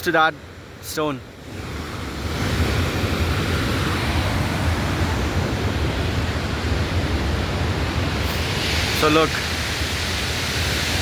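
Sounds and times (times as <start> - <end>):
large waterfall rushing: 0.9 - 11.0.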